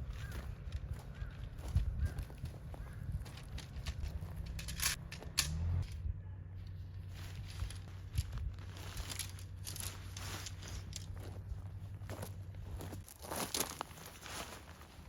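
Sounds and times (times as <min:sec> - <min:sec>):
crunching and crinkling: 0:00.0 - 0:06.0, 0:06.6 - 0:15.0
low steady rumble: 0:00.0 - 0:15.0.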